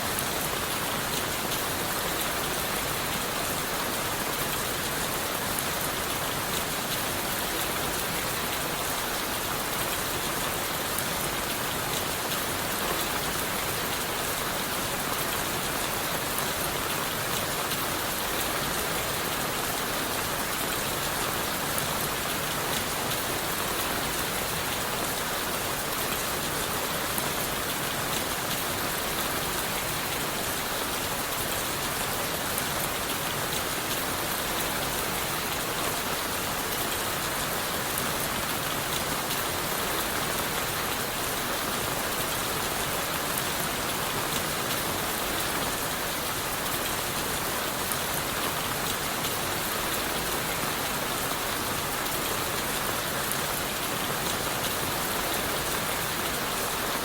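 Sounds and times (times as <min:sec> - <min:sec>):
rain falling on leaves and wood: 0:00.0 - 0:57.0.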